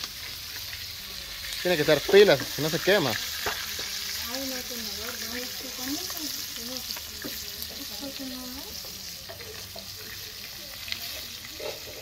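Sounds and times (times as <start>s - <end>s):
chicken deep-frying in oil: 0.0s - 12.0s
oil crackles and pops: 0.0s - 12.0s.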